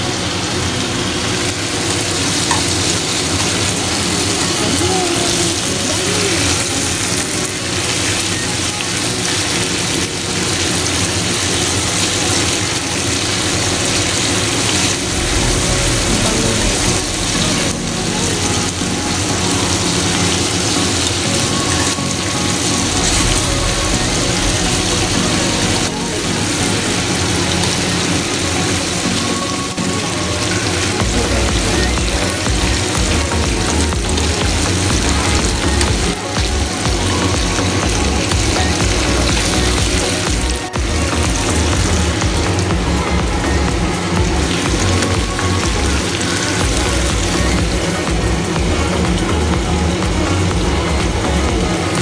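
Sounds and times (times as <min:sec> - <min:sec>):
background music: 0:00.0 - 0:52.0
beef sizzling in a pan: 0:00.0 - 0:52.0.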